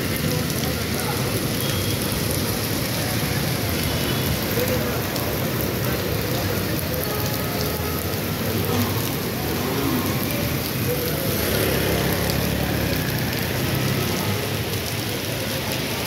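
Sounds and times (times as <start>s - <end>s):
heavy rain on wet pavement: 0.0s - 16.0s.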